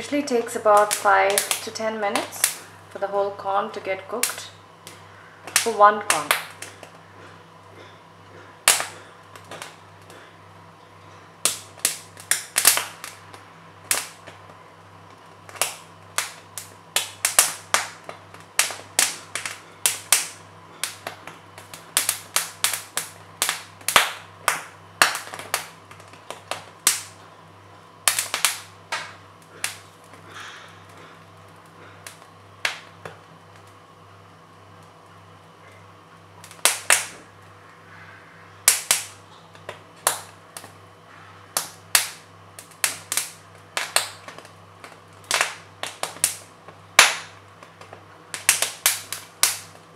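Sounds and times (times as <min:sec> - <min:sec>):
corn kernels popping: 0:00.0 - 0:02.7, 0:04.2 - 0:27.3, 0:28.0 - 0:33.8, 0:36.4 - 0:37.4, 0:38.6 - 0:40.8, 0:41.5 - 0:49.9
steady low hum: 0:00.0 - 0:49.9.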